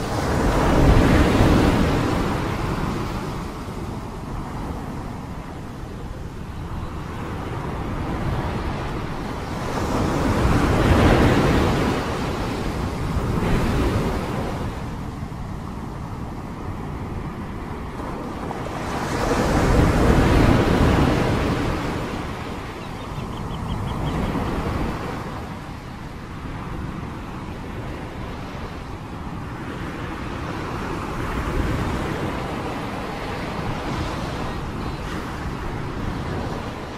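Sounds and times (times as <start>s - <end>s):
floodwater and waves rushing: 0.0s - 36.9s.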